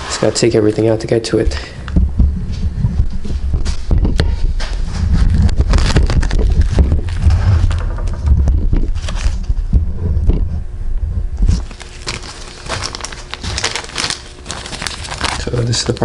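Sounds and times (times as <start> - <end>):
heavy low rumble: 0.6 - 14.2.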